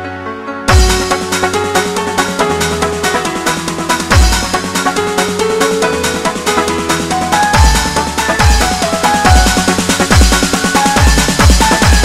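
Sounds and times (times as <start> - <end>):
electronic dance music: 0.7 - 12.0.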